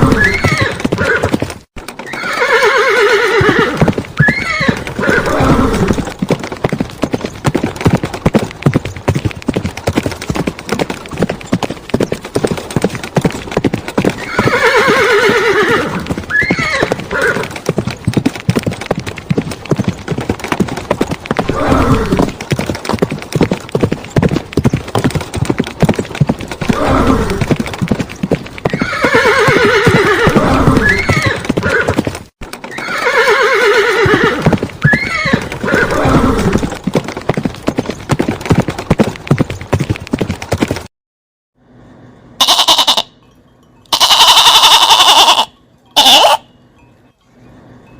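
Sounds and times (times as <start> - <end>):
horses neighing: 0.0 - 37.0, 42.4 - 43.2, 43.9 - 46.5
hooves clip-clopping: 0.0 - 40.9, 42.4 - 47.9.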